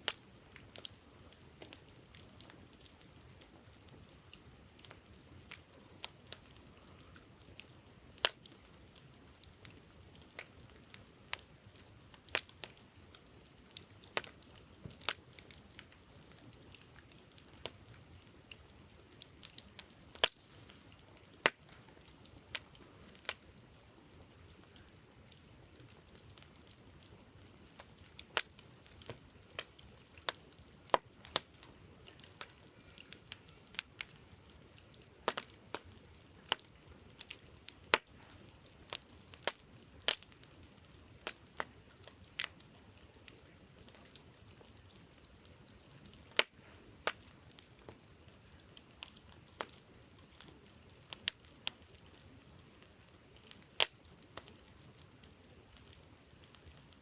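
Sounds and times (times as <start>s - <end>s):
campfire crackling and popping: 0.0s - 57.0s
faint steady hiss: 0.0s - 57.0s.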